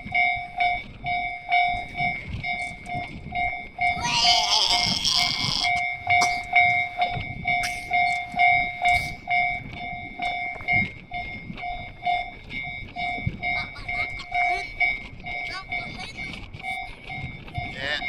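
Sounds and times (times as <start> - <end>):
level-crossing electronic bell: 0.0 - 18.0
train rumbling past: 0.0 - 18.0.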